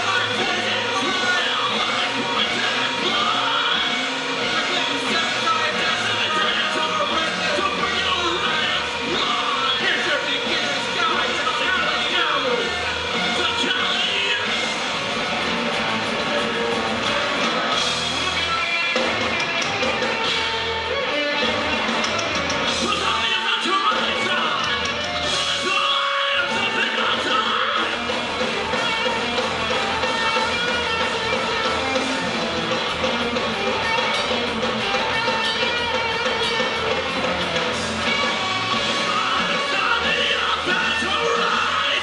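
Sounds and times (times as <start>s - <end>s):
distorted guitar: 0.0s - 42.0s.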